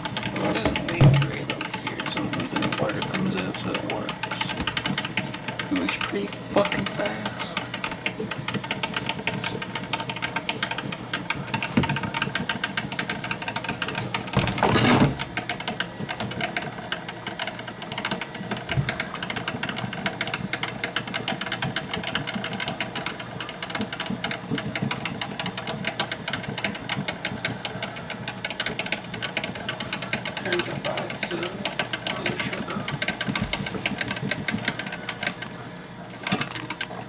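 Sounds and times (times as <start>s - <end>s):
coffee maker rattling sputter: 0.0s - 35.6s, 36.2s - 37.0s.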